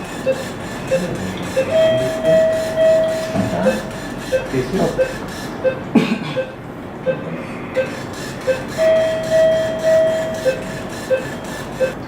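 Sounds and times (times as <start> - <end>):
patient monitor beeping: 0.0 - 12.0
long steady tone: 1.0 - 5.8, 7.1 - 12.0.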